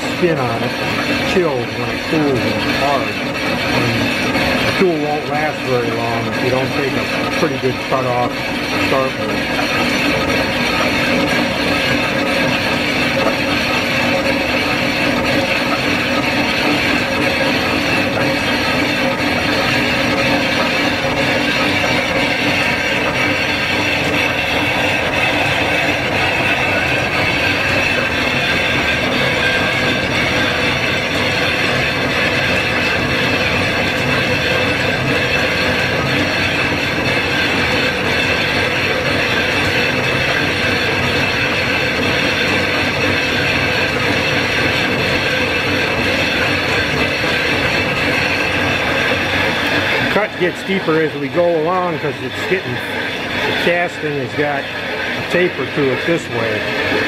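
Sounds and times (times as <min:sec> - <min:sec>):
lathe cutting metal: 0:00.0 - 0:57.0.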